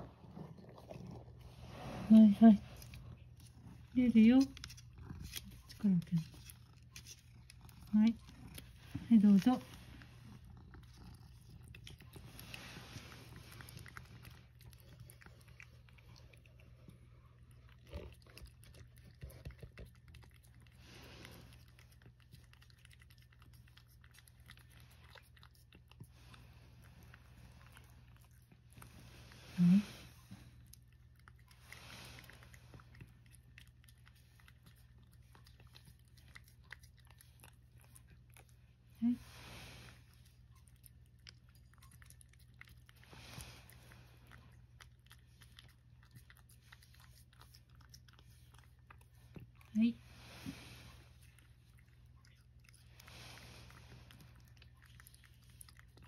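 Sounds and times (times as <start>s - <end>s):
cat lapping: 0.0s - 56.0s
low steady hum: 0.0s - 56.0s.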